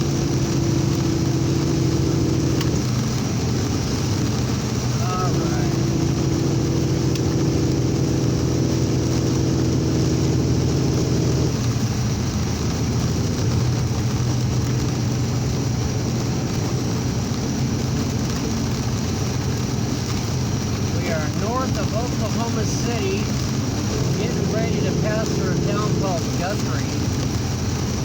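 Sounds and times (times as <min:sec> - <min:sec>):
heavy rain: 0:00.0 - 0:28.0
road noise: 0:00.0 - 0:28.0
truck engine droning: 0:00.0 - 0:28.0.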